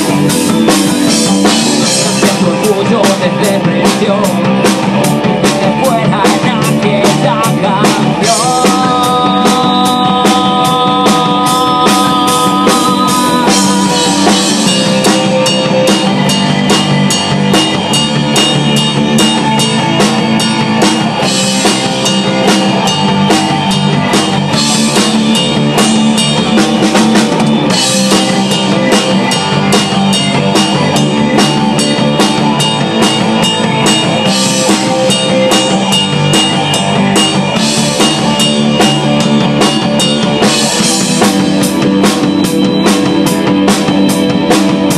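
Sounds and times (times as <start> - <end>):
drum kit beat: 0.0 - 44.9
guitar and bass: 0.0 - 44.9.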